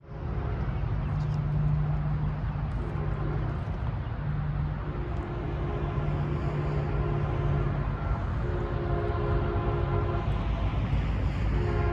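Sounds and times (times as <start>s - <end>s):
train rumbling past: 0.0s - 11.9s.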